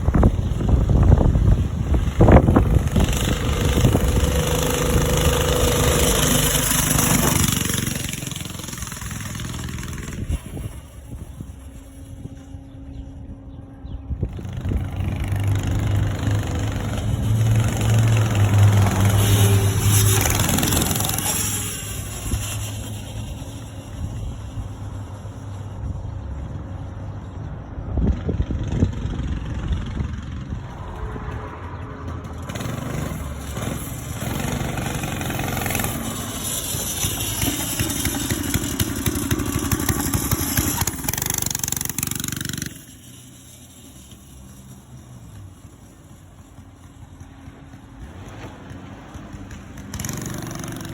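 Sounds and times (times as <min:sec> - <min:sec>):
small engine running: 0:00.0 - 0:26.8, 0:28.5 - 0:50.9.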